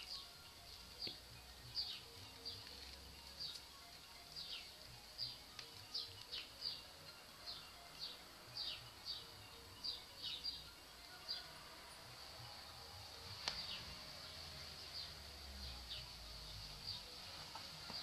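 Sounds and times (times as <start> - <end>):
high falling chirps: 0.0 - 18.0.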